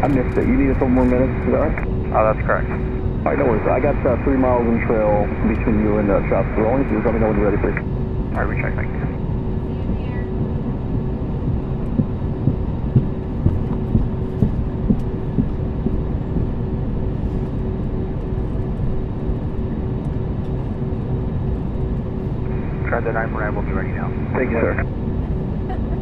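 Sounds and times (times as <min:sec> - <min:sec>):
jet cabin rumble and hum: 0:00.0 - 0:26.0.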